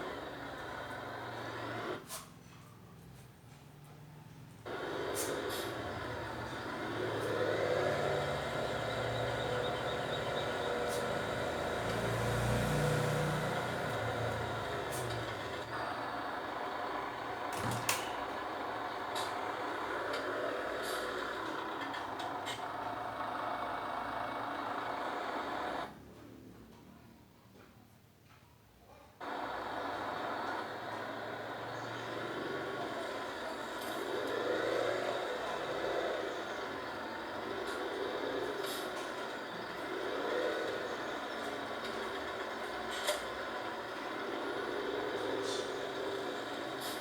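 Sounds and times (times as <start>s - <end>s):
heavy machine running: 0.0s - 2.2s, 4.6s - 26.0s, 29.2s - 47.0s.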